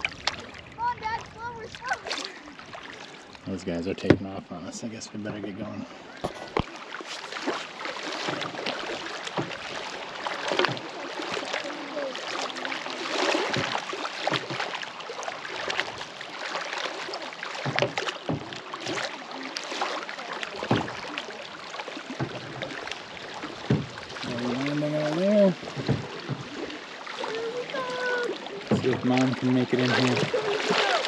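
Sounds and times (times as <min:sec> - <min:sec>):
paddle strokes splashing: 0:00.0 - 0:04.4, 0:05.2 - 0:31.0
moving water wash: 0:00.0 - 0:31.0.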